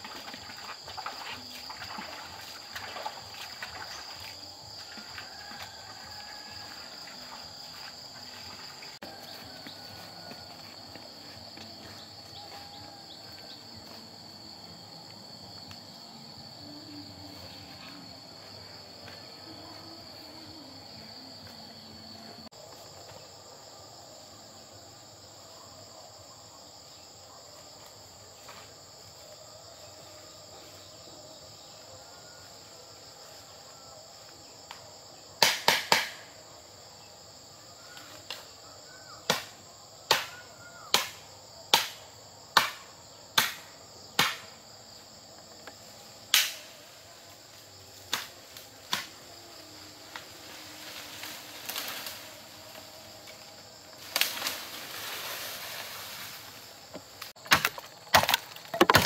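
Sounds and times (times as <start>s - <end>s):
crickets chirring: 0.0s - 59.0s.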